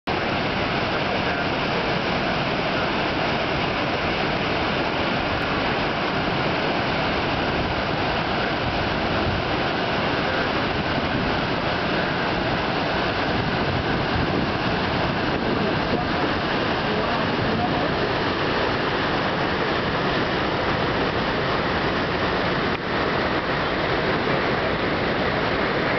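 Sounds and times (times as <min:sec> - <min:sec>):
water cascading into basin: 0:00.1 - 0:25.9.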